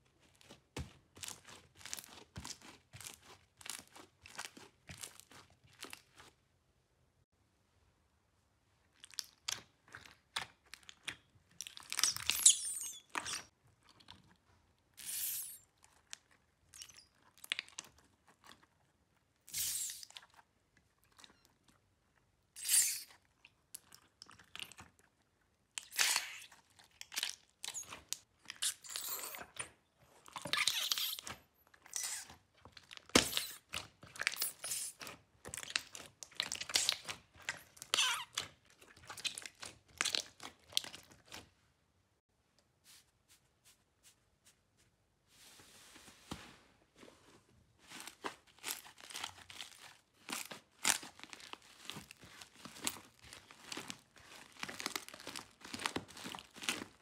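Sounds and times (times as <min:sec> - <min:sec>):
slime squelching and crackling: 0:00.0 - 0:06.5, 0:08.8 - 0:41.6, 0:47.7 - 0:57.0.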